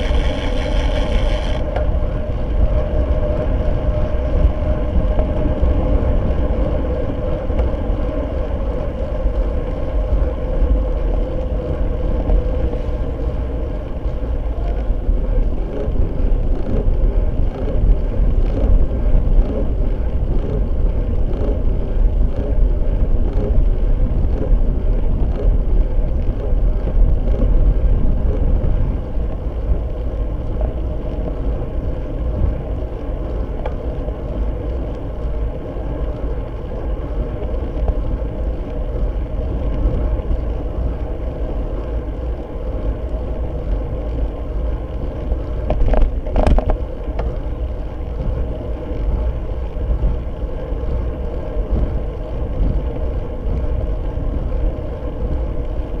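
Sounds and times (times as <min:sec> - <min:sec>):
road rumble: 0:00.0 - 0:56.0
steady hum: 0:00.0 - 0:56.0
wind rush: 0:00.0 - 0:56.0.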